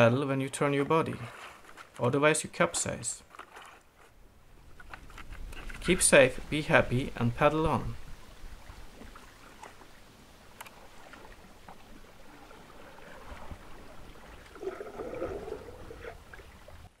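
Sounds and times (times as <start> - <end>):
kayak paddle splashing in water: 0.6 - 6.0, 8.1 - 17.0.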